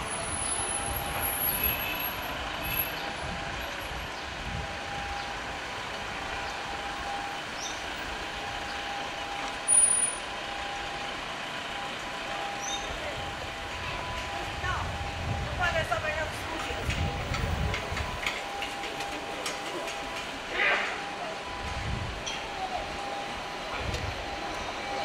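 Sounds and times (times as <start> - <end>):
hum of vehicles: 0.0 - 25.0.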